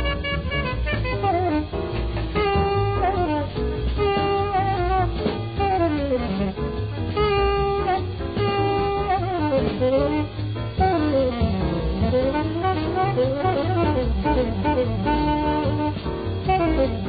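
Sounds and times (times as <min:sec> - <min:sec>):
drums: 0:00.0 - 0:17.0
tenor saxophone solo: 0:00.0 - 0:17.0
walking bass: 0:00.0 - 0:17.0.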